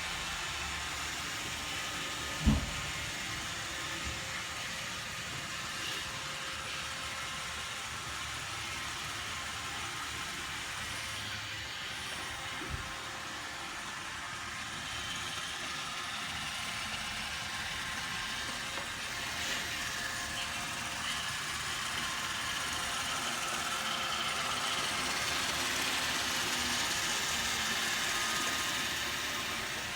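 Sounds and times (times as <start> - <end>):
robot vacuum whirring: 0.0 - 29.9.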